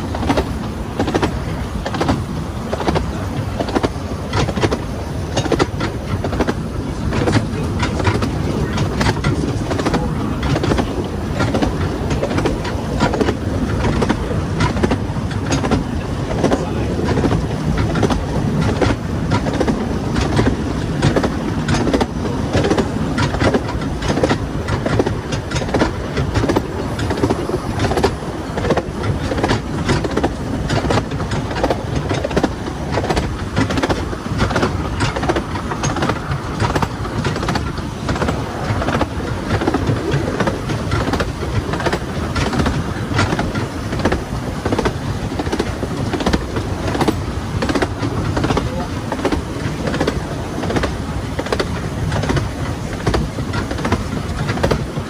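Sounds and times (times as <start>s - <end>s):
train carriage rumbling and rattling: 0.0s - 55.0s
wheels clicking and knocking: 0.0s - 55.0s.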